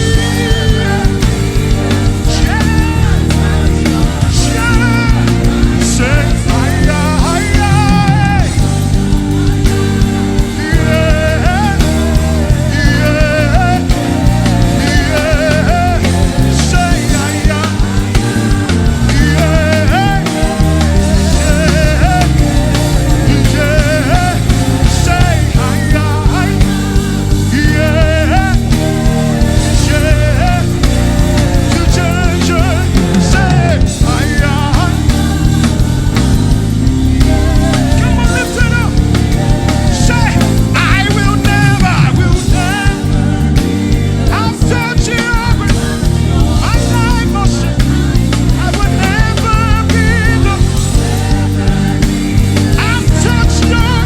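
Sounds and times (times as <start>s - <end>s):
bass: 0.0s - 54.0s
drum kit: 0.0s - 54.0s
live worship band music: 0.0s - 54.0s
wavering lead melody: 0.0s - 54.0s.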